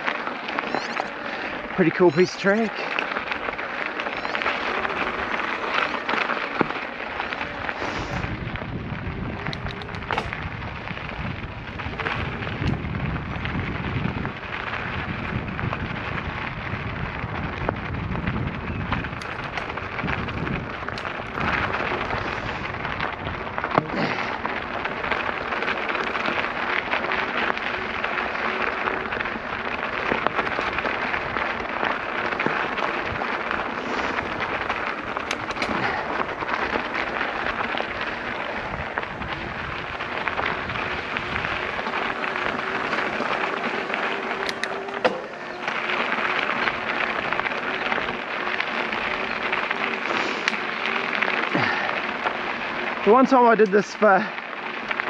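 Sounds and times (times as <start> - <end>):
bike tyres crunching over stones: 0.0 - 55.0
wind buffeting microphone: 4.4 - 53.1.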